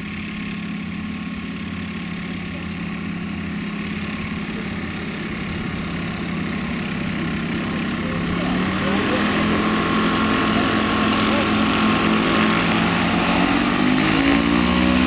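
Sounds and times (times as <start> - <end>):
two-stroke engine and propeller: 0.0 - 15.0.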